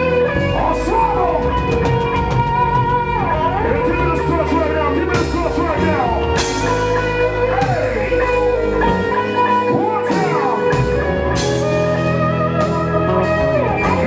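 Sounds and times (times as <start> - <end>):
guitar music over sound system: 0.0 - 14.0.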